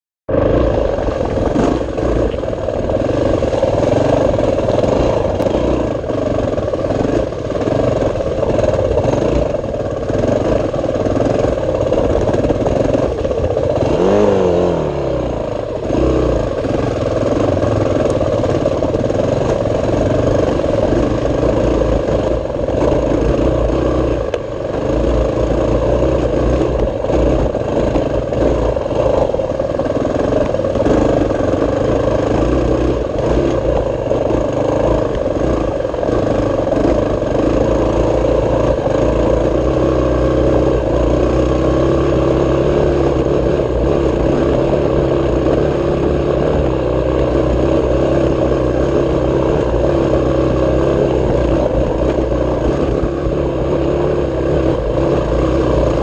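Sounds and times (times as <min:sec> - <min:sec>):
dirt bike engine revving: 0:00.3 - 0:56.0.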